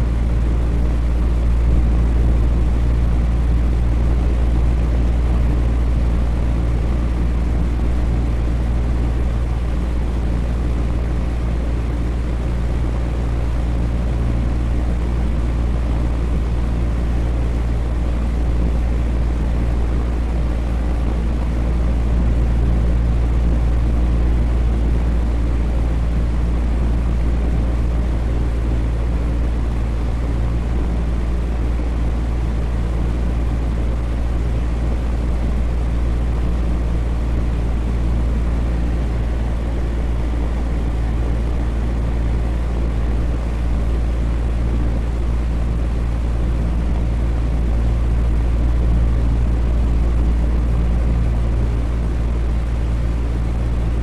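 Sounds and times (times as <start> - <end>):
electric fan whirring: 0.0 - 54.0.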